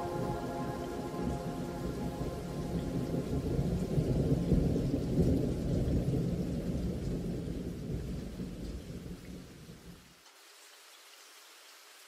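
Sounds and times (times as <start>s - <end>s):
low rumble of thunder: 0.0s - 10.0s
rain falling: 0.0s - 12.0s.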